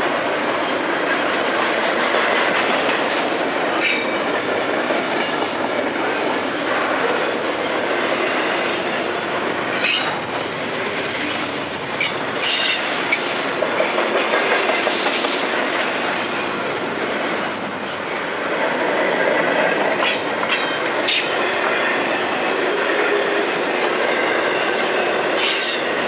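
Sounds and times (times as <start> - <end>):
rail clacks: 0.0 - 26.0
train wheels rolling on rail: 0.0 - 26.0.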